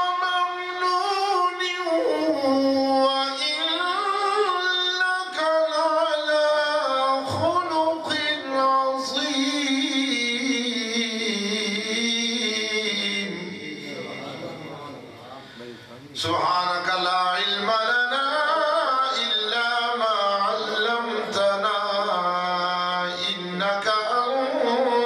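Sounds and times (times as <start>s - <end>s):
person chanting: 0.0s - 14.8s, 15.6s - 25.0s.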